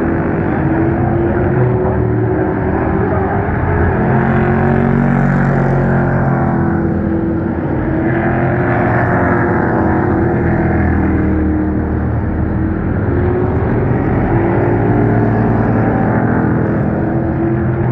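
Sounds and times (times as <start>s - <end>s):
racing truck engines droning: 0.0s - 17.9s.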